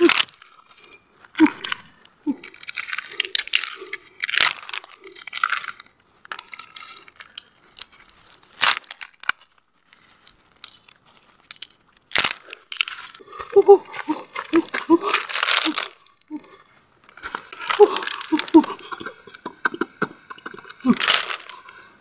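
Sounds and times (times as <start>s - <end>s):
dry leaves rustling and crunching: 0.0s - 18.9s, 20.8s - 21.6s.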